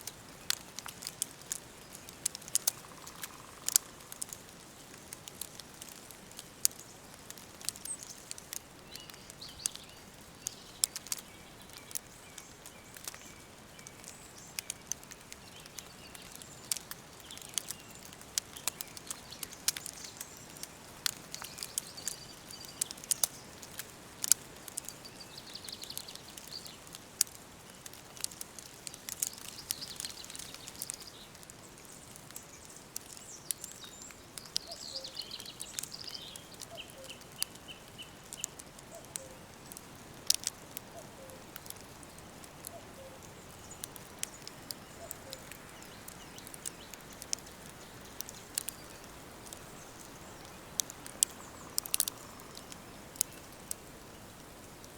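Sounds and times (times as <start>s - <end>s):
songbirds singing: 0.0s - 54.9s
wood fire crackling: 0.0s - 54.9s.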